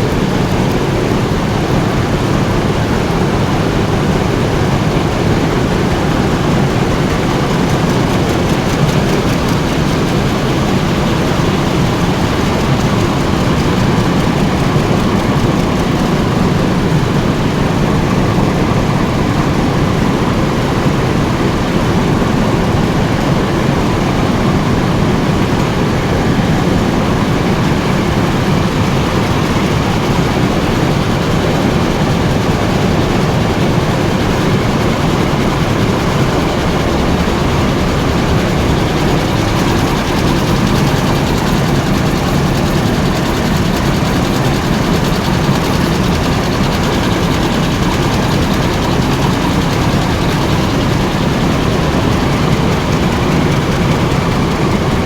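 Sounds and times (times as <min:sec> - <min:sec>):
machine mechanical clatter: 0:00.0 - 0:17.7, 0:24.6 - 0:55.0.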